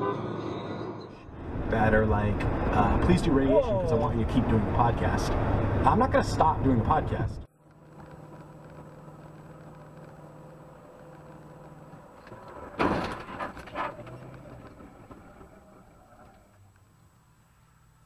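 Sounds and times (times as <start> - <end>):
car engine and road drone: 0.0 - 18.0.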